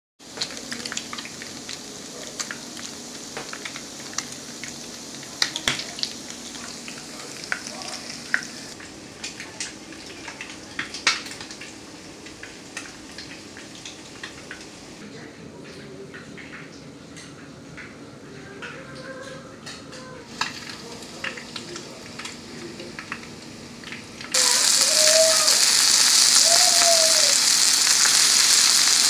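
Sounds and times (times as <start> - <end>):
food sizzling in hot oil: 0.2 - 15.0, 20.3 - 29.0
oil popping and crackling: 0.2 - 15.0, 20.3 - 29.0.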